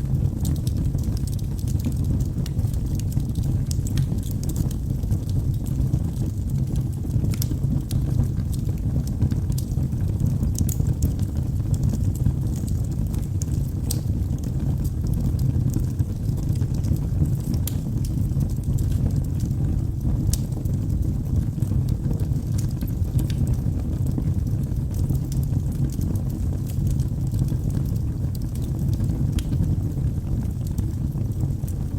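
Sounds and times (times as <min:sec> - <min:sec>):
low rumble of flames: 0:00.0 - 0:31.9
logs crackling and popping: 0:00.1 - 0:31.9.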